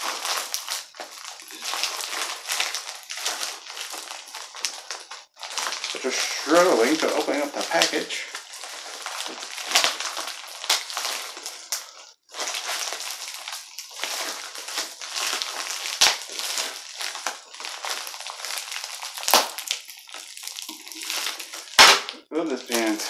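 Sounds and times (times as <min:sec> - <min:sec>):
plastic package crinkling and tearing: 0:00.0 - 0:23.0.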